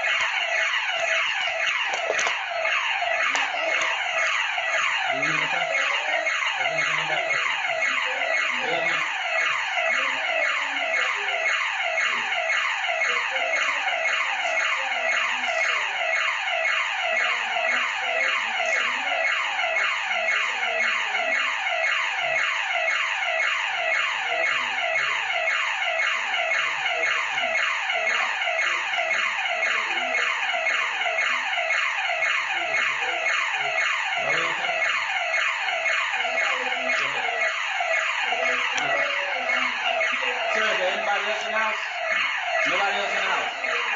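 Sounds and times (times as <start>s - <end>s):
burglar alarm siren: 0.0s - 43.9s.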